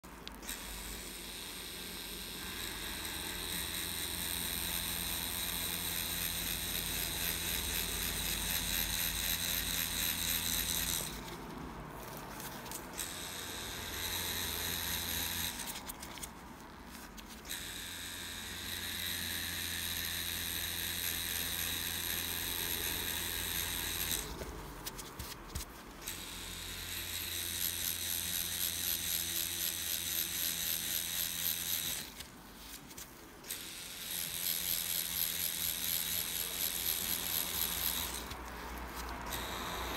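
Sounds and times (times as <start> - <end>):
tattoo machine buzzing: 0.4 - 11.5, 12.1 - 16.3, 17.2 - 24.9, 26.0 - 32.2, 33.4 - 39.9.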